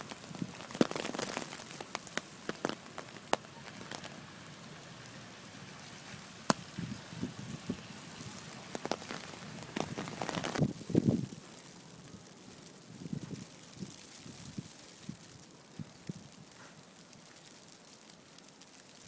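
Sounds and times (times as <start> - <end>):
wet snow pattering: 0.0 - 19.0.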